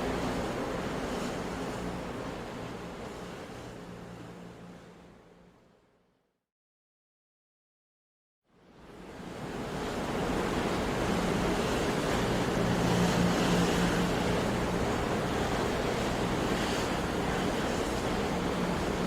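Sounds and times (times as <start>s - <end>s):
sea surf waves: 0.0s - 5.5s, 8.6s - 19.0s.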